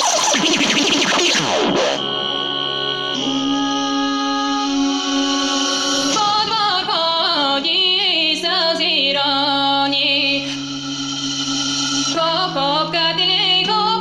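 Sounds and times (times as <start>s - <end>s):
sustained synth chords: 0.0s - 14.0s.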